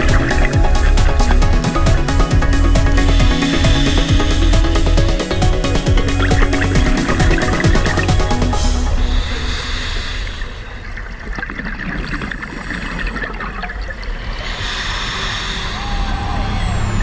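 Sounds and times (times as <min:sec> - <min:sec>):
underwater regulator bubbling: 0:00.0 - 0:14.8.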